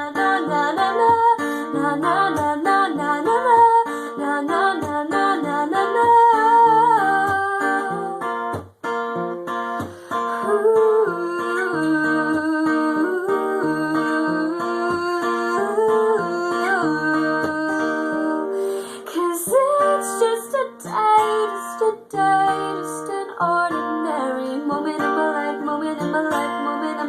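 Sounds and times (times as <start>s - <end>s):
acoustic guitar: 0.0s - 27.0s.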